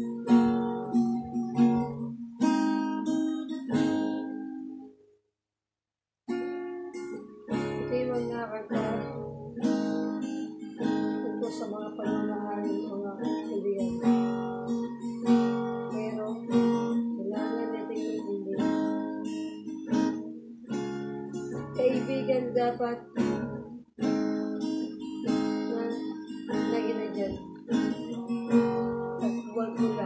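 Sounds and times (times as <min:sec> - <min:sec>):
acoustic guitar strumming chords: 0:00.0 - 0:05.0, 0:06.3 - 0:30.0.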